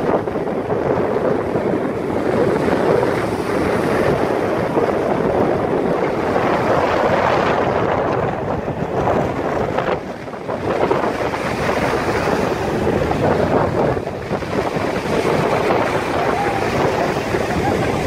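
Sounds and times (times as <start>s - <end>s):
waves breaking on shore: 0.0s - 18.0s
wind blowing across microphone: 0.0s - 18.0s.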